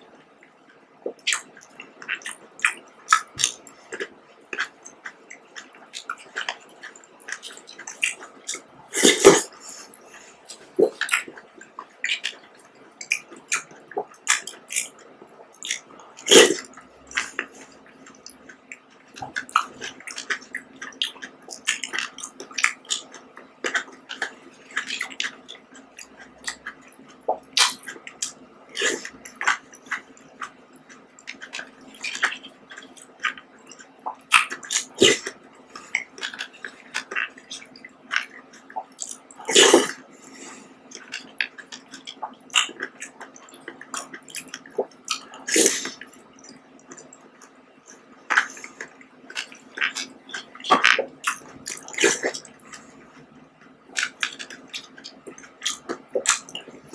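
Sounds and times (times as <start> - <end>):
wet chewing and squishing: 0.2 - 56.9.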